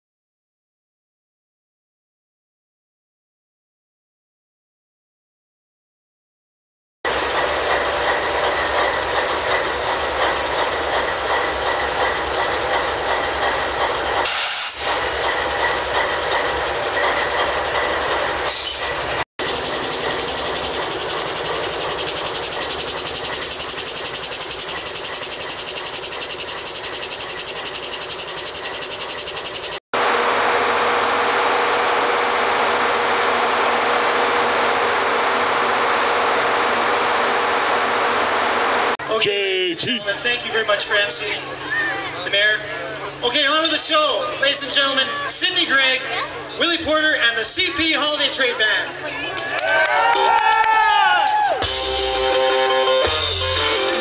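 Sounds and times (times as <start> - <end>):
diesel locomotive noise: 7.1 - 50.8.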